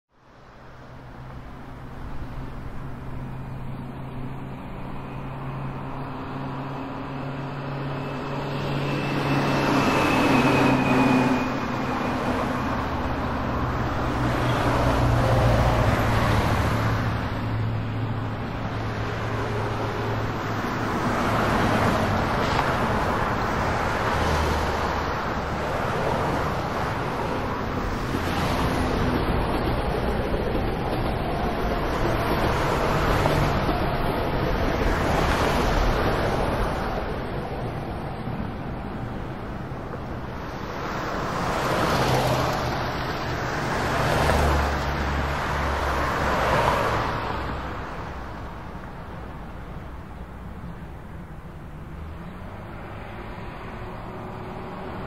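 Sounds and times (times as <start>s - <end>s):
vehicles passing: 0.2s - 55.0s
steady engine hum: 0.3s - 45.9s.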